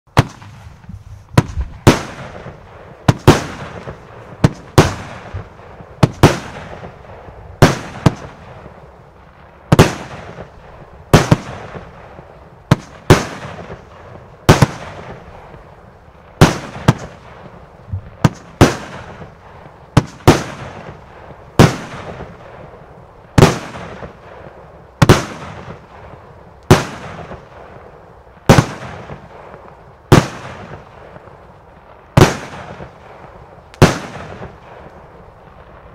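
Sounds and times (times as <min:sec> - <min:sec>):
firework bangs with hiss: 0:00.1 - 0:35.9.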